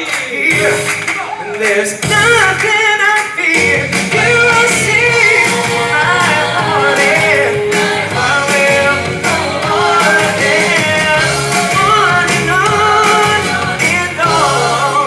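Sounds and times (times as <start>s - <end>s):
full band backing: 0.0s - 15.0s
person singing: 0.0s - 15.0s.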